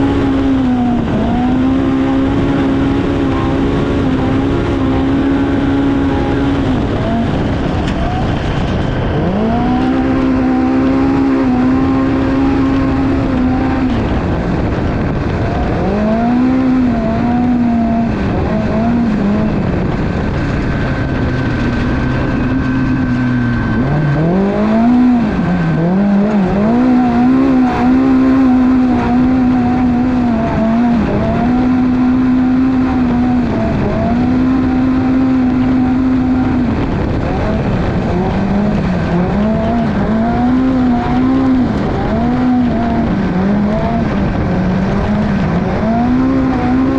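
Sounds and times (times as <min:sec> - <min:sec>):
engine racing flat out: 0:00.0 - 0:46.9
wind noise: 0:00.0 - 0:46.9.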